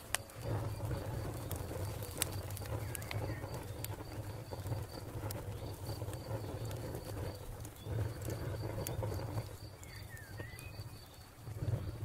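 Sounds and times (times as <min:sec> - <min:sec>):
low rumble: 0:00.0 - 0:12.0
wood fire crackling: 0:00.0 - 0:12.0.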